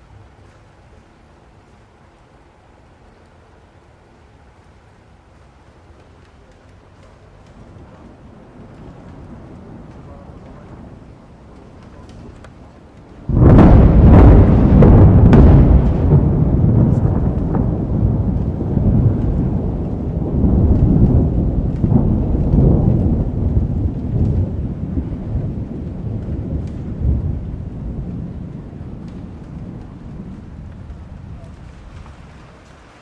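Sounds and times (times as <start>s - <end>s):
rain falling: 0.0s - 33.0s
thunder rumbling: 0.0s - 33.0s.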